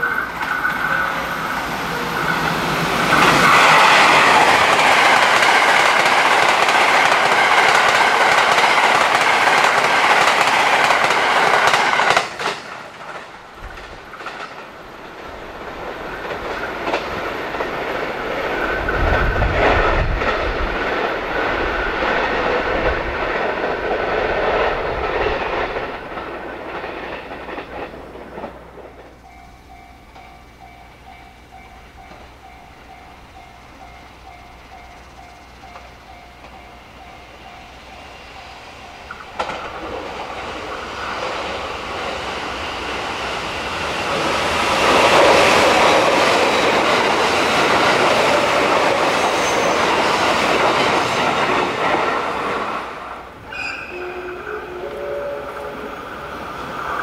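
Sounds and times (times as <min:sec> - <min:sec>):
electric trains passing on rails: 0:00.0 - 0:57.0.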